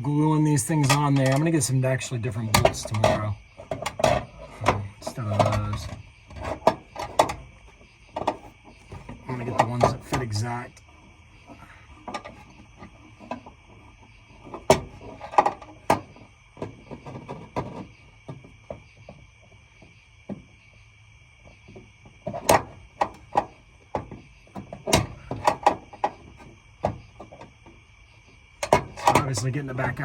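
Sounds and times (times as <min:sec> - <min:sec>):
hardware clicks and knocks: 0:00.6 - 0:10.8, 0:11.5 - 0:20.6, 0:21.4 - 0:30.0.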